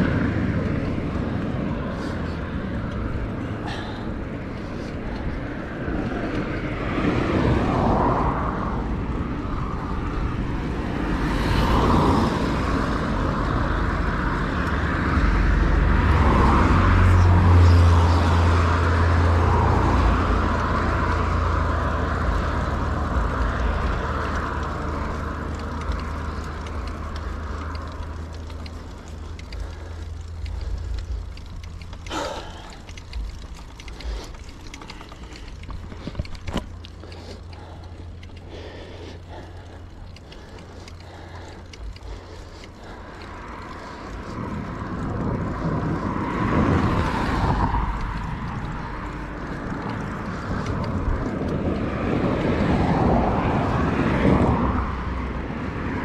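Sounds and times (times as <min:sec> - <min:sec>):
passing traffic: 0:00.0 - 0:56.0
road noise: 0:00.0 - 0:56.0
wind rumbling on microphone: 0:00.0 - 0:56.0.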